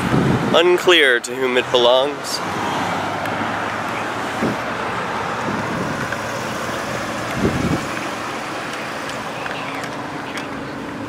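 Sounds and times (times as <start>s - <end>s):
street traffic hiss: 0.0s - 11.0s.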